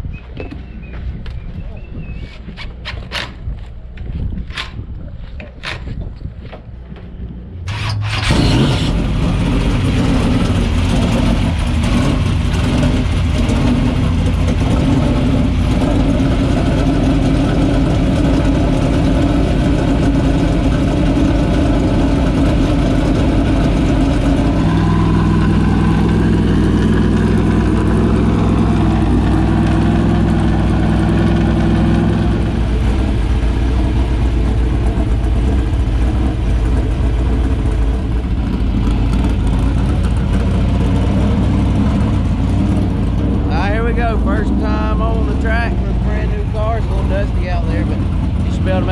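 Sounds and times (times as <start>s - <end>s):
race car engine idling loudly: 7.7s - 48.9s.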